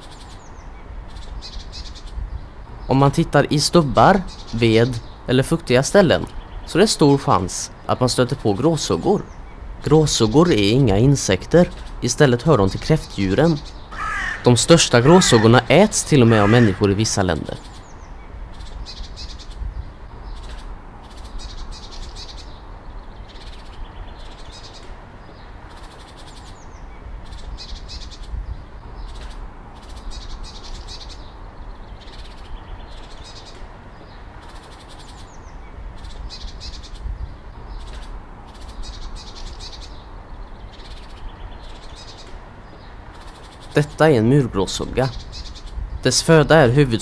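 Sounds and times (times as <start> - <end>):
background hiss: 0.0 - 47.0
birds chirping and calling: 0.0 - 47.0.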